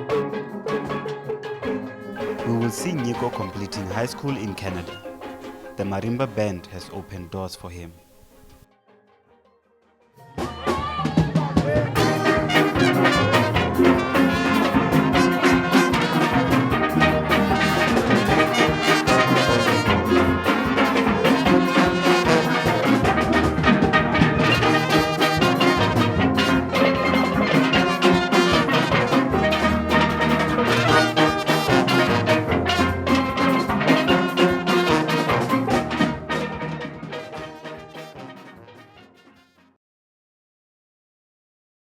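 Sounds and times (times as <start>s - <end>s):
upbeat ensemble music: 0.0s - 8.6s, 10.2s - 39.8s.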